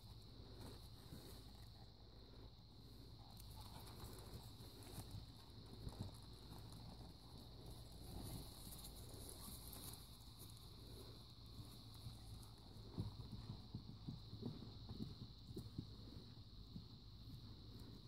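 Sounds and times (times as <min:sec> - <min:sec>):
crickets chirring: 0:00.0 - 0:18.0
horse hooves walking on grass: 0:00.0 - 0:18.0.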